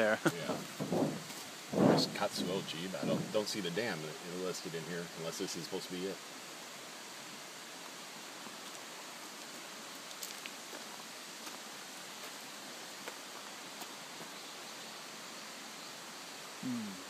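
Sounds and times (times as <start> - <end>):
outdoor rushing hiss: 0.0 - 17.0.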